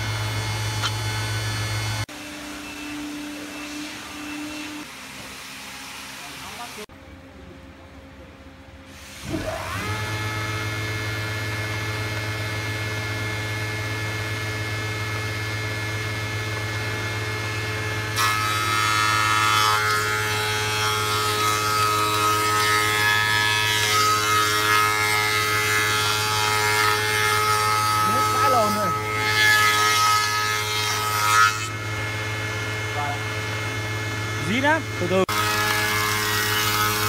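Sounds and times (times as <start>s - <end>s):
board being cut: 0.0s - 6.9s, 9.0s - 37.0s
woodworking machine humming: 0.0s - 8.4s, 9.0s - 37.0s.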